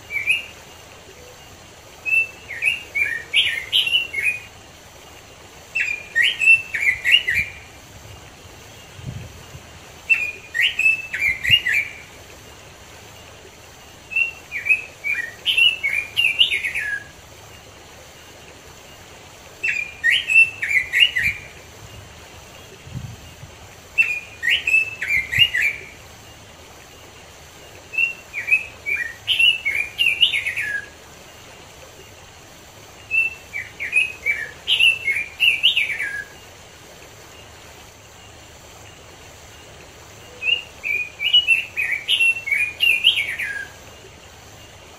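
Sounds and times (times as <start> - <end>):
bird warbling song: 0.0 - 44.9
stream rushing: 0.0 - 44.9.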